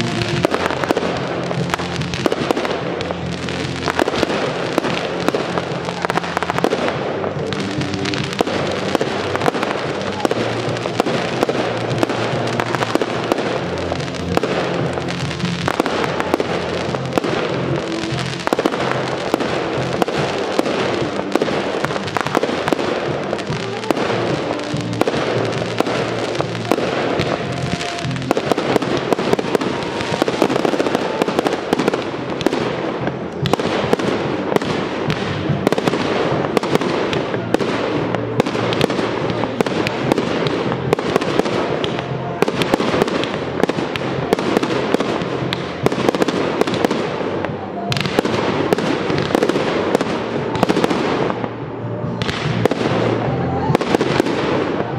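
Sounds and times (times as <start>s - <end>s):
fireworks bangs and crackles: 0.0s - 54.9s
music playing: 0.0s - 54.9s.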